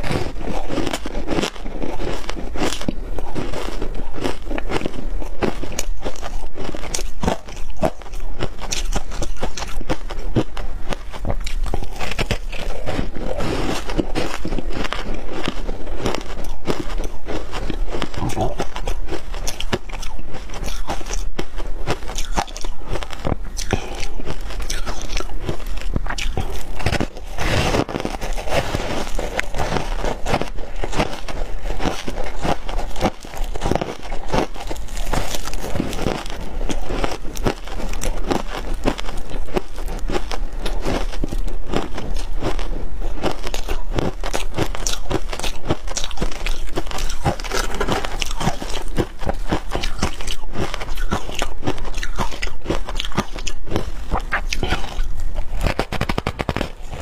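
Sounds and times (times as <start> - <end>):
ice being crunched: 0.0 - 57.0.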